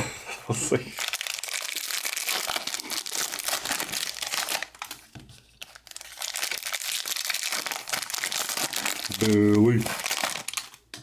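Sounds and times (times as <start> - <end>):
card packs crinkling: 0.9 - 11.0.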